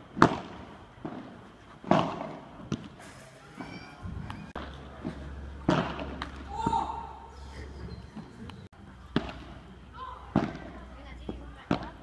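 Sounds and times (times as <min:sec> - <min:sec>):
rackets striking ball: 0:00.1 - 0:06.9, 0:09.0 - 0:12.0.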